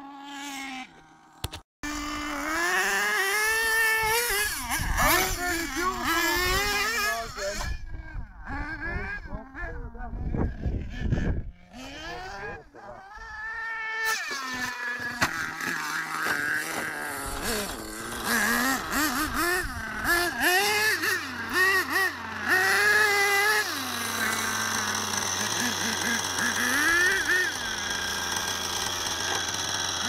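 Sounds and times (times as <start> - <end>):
small nitro engines revving: 0.0 - 30.0.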